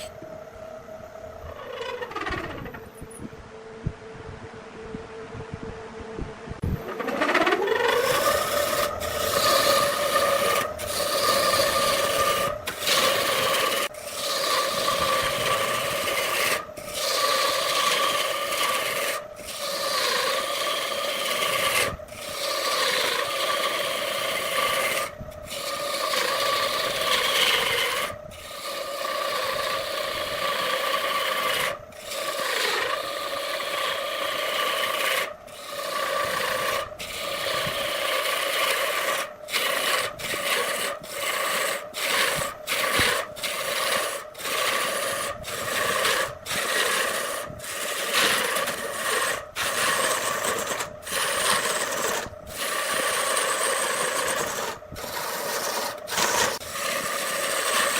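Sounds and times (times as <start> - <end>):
turning tool scraping wood: 0.0 - 0.2, 1.4 - 3.1, 6.8 - 57.9
wood lathe motor hum: 0.0 - 4.8, 6.0 - 57.9.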